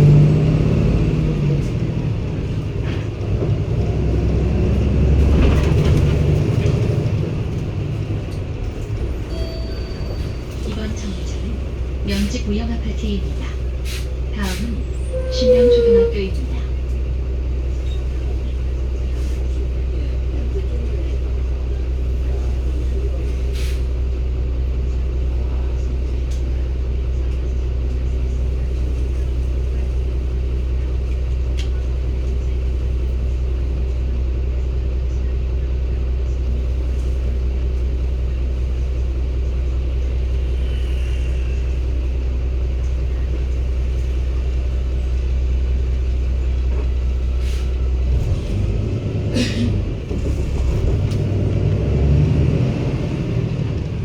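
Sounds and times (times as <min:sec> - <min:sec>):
bus diesel engine idling and revving: 0:00.0 - 0:54.0.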